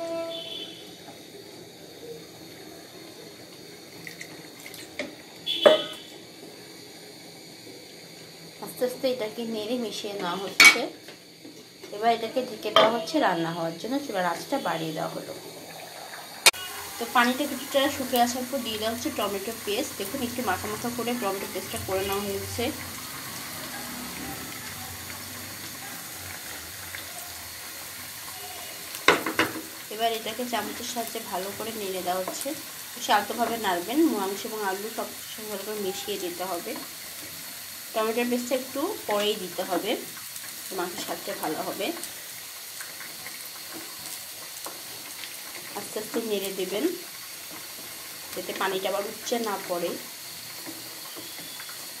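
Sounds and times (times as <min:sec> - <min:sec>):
curry simmering in a frying pan: 0:00.0 - 0:52.0.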